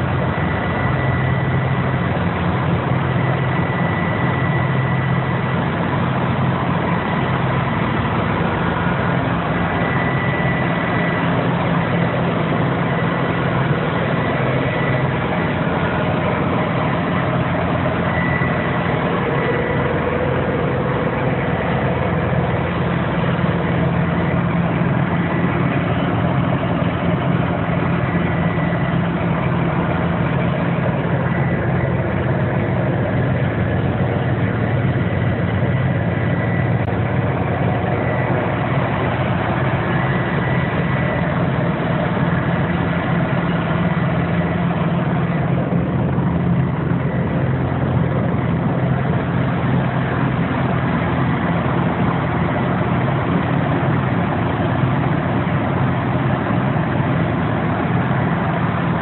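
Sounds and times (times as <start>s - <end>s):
diesel engine running: 0.0s - 59.0s
faint high whine: 0.0s - 59.0s.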